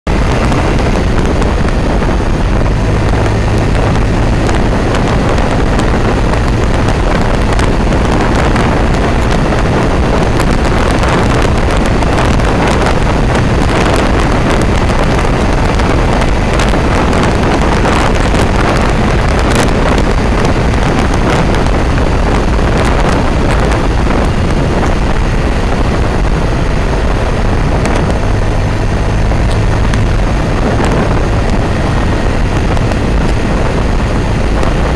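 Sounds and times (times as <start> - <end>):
motorcycle engine running: 0.1 - 34.9
wind rushing over microphone: 0.1 - 34.9.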